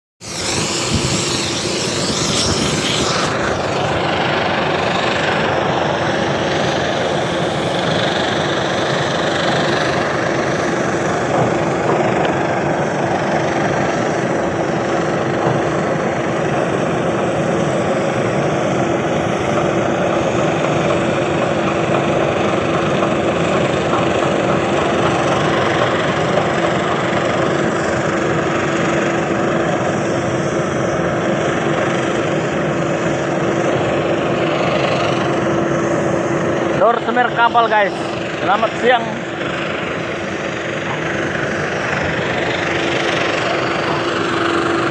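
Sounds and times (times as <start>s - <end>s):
ship machinery droning: 0.2s - 44.9s.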